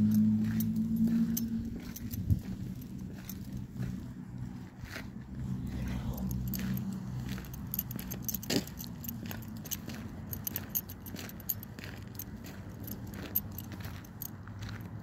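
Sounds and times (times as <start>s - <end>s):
keys jingling: 0.0s - 4.2s, 5.4s - 15.0s.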